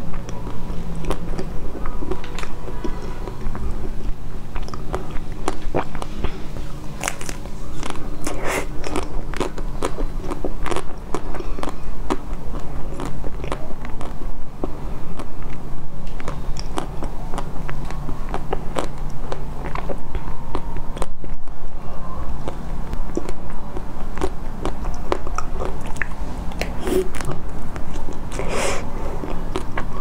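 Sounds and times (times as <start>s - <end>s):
crunchy ice cream coating chewing: 0.0s - 21.5s, 22.3s - 30.0s.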